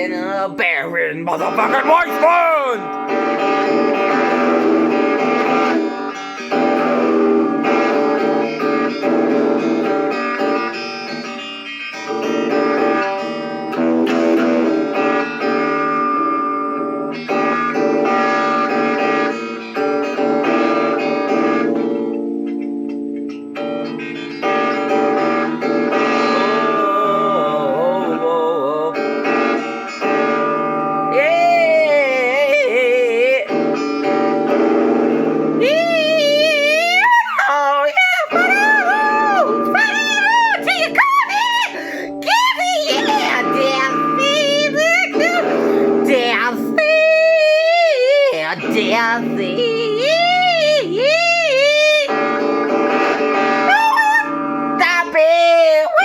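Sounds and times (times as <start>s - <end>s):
person singing long wavering notes: 0.0s - 19.4s, 24.8s - 56.0s
instrumental guitar chords: 0.0s - 56.0s.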